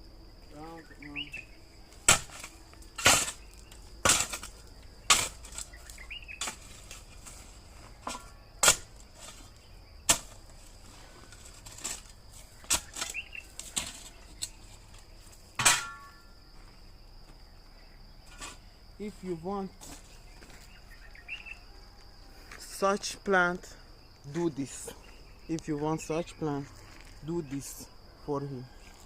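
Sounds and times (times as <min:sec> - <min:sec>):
crickets droning: 0:00.0 - 0:29.0.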